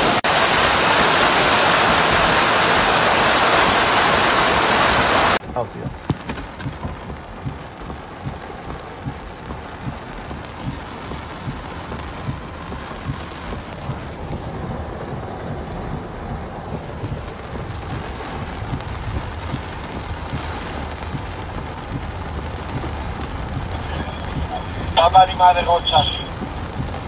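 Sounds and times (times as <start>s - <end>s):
heavy rain hissing: 0.0s - 27.0s
raindrops knocking: 0.0s - 27.0s.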